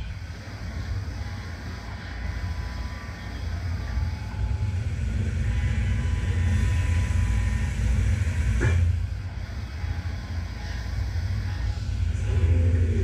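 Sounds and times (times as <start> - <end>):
machinery humming: 0.0 - 13.0
rising machine whine: 0.0 - 13.0.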